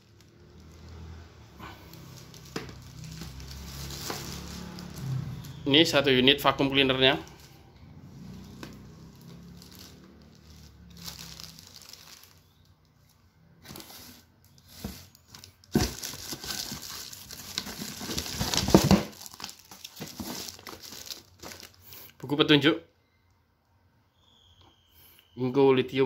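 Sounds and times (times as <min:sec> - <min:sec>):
plastic bags crinkling: 0:00.0 - 0:07.6, 0:08.4 - 0:22.0.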